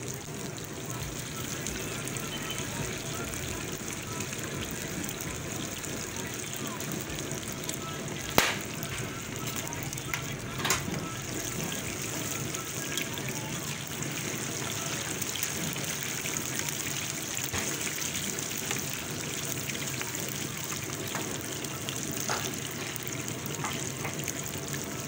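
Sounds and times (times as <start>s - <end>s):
oil bubbling and sizzling: 0.0s - 25.0s.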